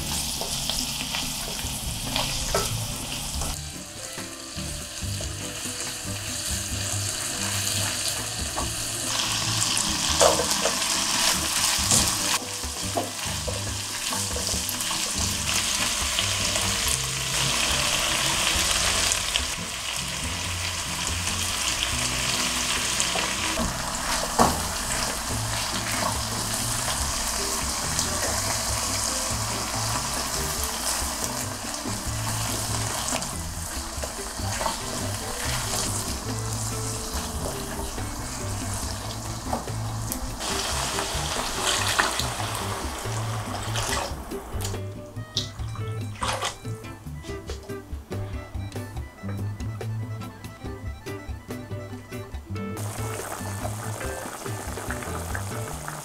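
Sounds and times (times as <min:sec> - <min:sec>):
meat and vegetables sizzling: 0:00.0 - 0:48.9, 0:51.1 - 0:56.0.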